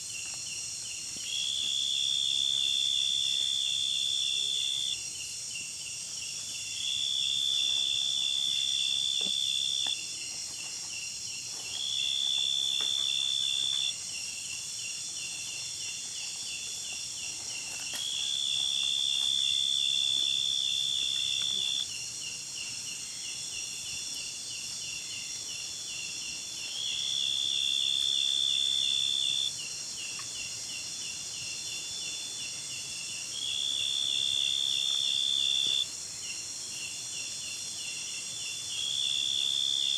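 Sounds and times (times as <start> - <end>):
insects chirping in chorus: 0.0 - 39.9.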